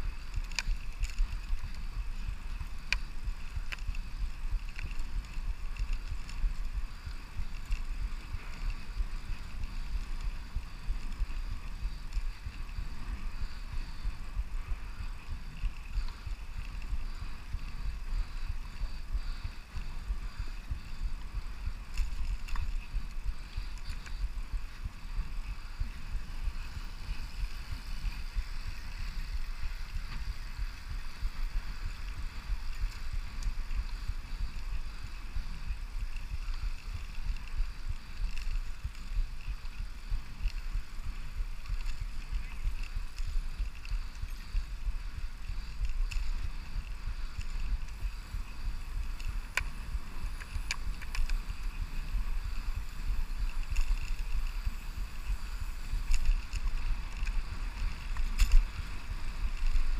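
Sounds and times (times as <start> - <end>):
bicycle riding on paved road: 0.0 - 59.9
steady hiss: 0.0 - 59.9
wind on microphone: 0.0 - 59.9.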